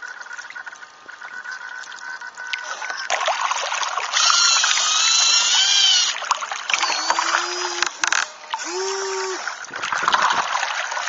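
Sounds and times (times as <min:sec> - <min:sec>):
water rushing along a hull: 0:01.8 - 0:11.0.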